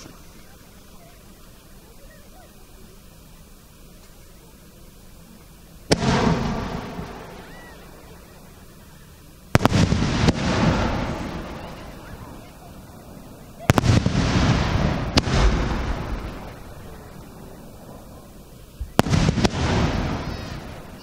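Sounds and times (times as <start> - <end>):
rumble of firework bursts: 0.0 - 21.0
sharp firework cracks: 3.0 - 21.0
firework shells bursting: 3.8 - 21.0.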